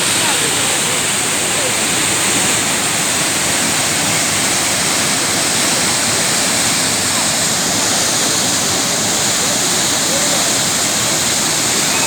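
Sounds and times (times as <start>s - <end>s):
mountain water rushing: 0.0s - 12.0s.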